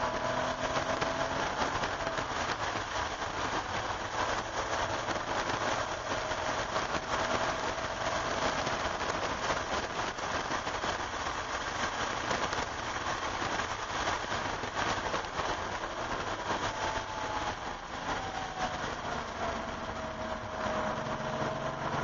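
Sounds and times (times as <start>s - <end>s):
car engine at speed: 0.0s - 22.0s
wet road spray and rain hiss: 0.0s - 22.0s.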